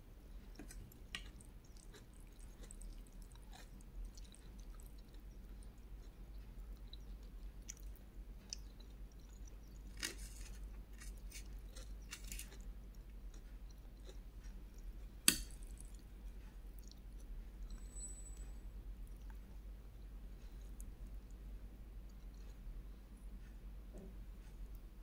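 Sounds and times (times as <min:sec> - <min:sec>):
person chewing food: 0:00.3 - 0:17.8, 0:19.0 - 0:19.5, 0:20.4 - 0:23.0.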